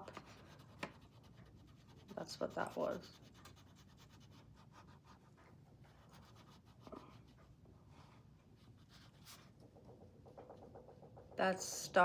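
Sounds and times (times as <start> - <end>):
crayon scratching on paper: 0.0 - 11.7.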